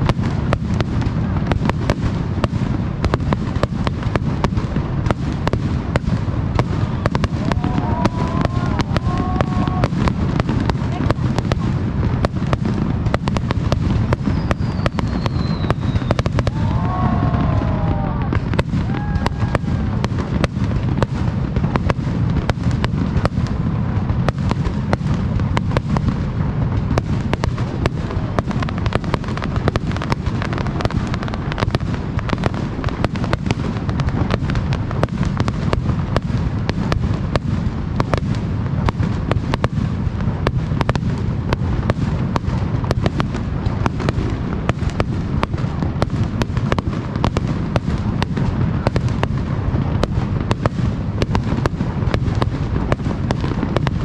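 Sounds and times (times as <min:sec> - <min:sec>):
fireworks bursts cracking: 0:00.0 - 0:54.0
low rumble of fireworks: 0:00.0 - 0:54.0.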